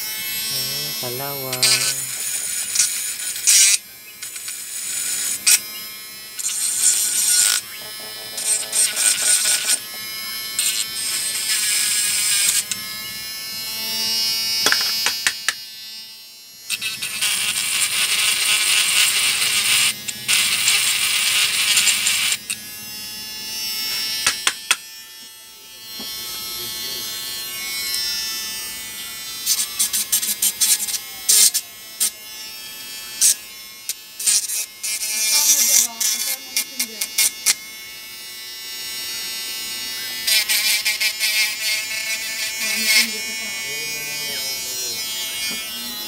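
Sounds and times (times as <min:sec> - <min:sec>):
rotary tool grinding on metal: 0:00.0 - 0:46.0.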